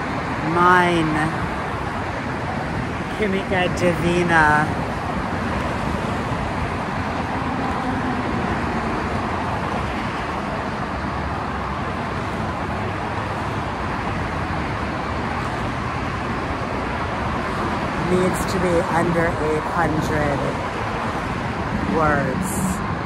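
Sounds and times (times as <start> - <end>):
freeway traffic: 0.0 - 23.0.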